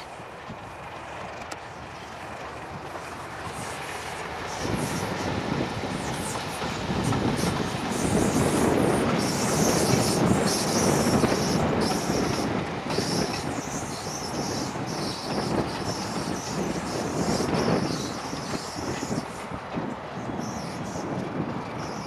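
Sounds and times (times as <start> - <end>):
diesel locomotive passing: 0.0 - 22.0.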